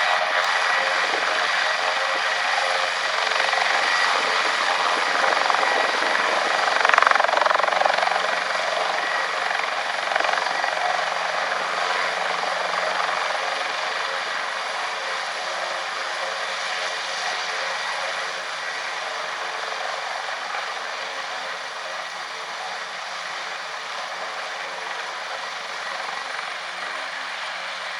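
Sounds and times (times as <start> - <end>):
helicopter turbine and rotor whine: 0.0 - 27.9.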